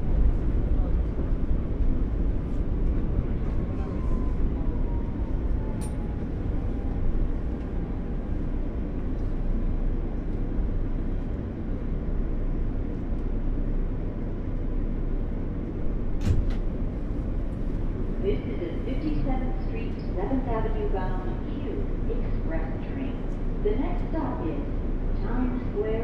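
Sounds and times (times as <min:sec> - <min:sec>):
subway train rumble: 0:00.0 - 0:26.0.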